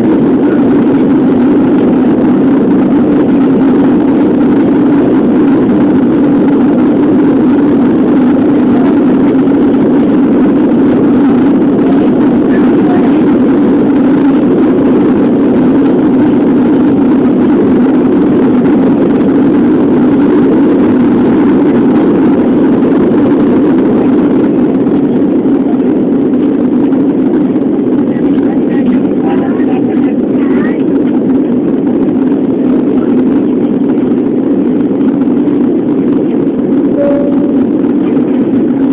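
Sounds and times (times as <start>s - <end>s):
jet engine and airflow in cabin: 0.0s - 38.9s.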